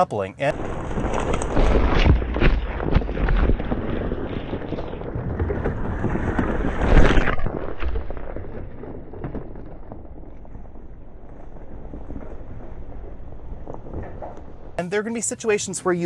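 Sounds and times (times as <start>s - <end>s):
tyres crunching over dirt and stones: 0.5s - 14.8s
wind noise on microphone: 0.5s - 14.8s.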